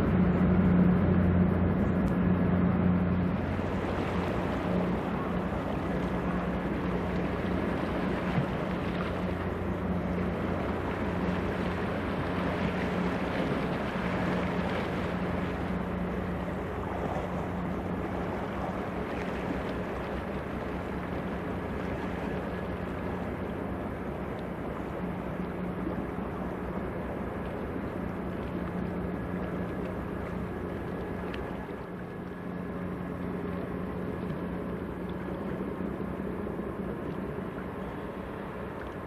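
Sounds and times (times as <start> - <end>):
ship diesel engines humming: 0.0 - 39.0
water churning: 0.0 - 39.0.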